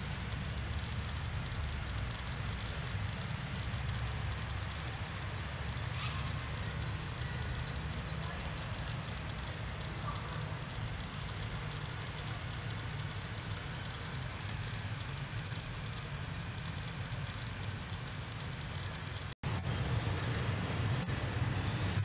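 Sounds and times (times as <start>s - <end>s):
low rumble and hiss: 0.0s - 22.0s
bird chirping: 1.2s - 18.9s.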